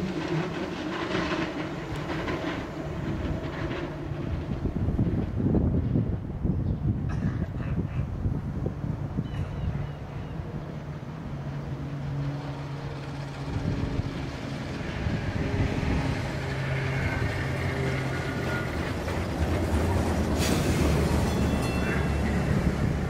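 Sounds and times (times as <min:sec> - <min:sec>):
streetcar low hum: 0:00.0 - 0:23.0.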